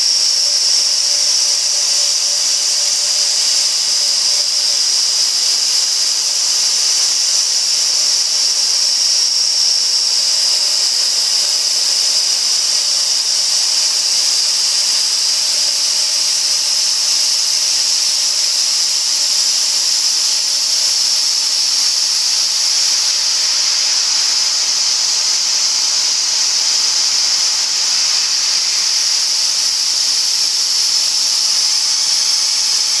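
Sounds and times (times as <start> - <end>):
milling spindle whine: 0.0 - 33.0.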